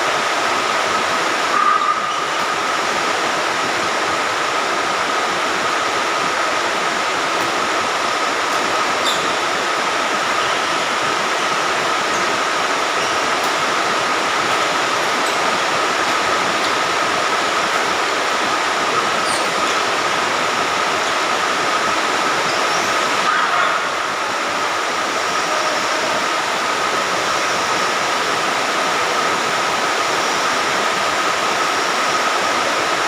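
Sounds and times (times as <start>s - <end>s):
steady rain falling: 0.0s - 33.0s
thin steady whine: 0.0s - 33.0s.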